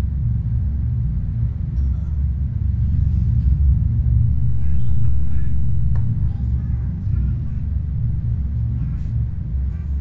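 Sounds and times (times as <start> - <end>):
deep rumble of flames: 0.0 - 10.0.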